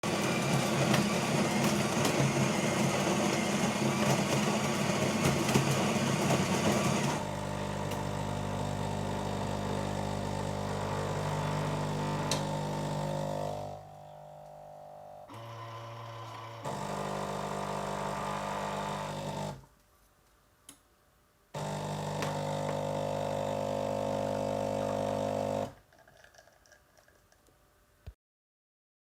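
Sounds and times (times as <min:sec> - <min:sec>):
coffee machine whirring and humming: 0:00.0 - 0:19.6, 0:21.6 - 0:25.8.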